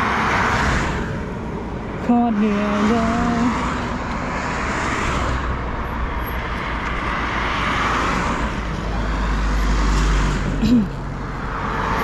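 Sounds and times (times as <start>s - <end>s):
highway traffic rushing: 0.0s - 12.0s.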